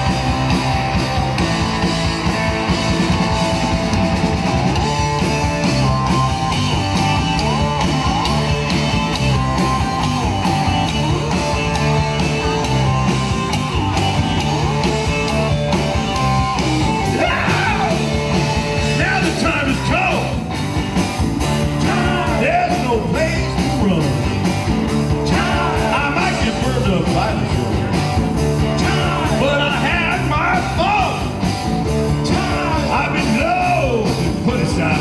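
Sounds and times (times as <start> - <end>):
live rock band playing: 0.0 - 35.0
sliding electric guitar lead: 0.0 - 35.0.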